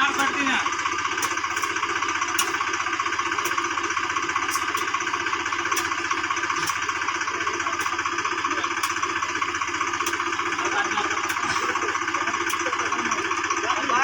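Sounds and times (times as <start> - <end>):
tractor diesel engine running: 0.0 - 14.0
sharp clicks: 1.2 - 8.1, 8.7 - 13.4.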